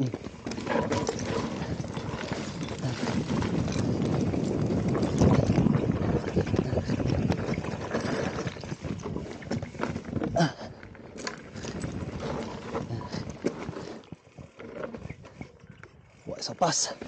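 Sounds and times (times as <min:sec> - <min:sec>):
bike tyres crunching on shale: 0:00.0 - 0:17.0
stones clattering against bike: 0:00.0 - 0:17.0.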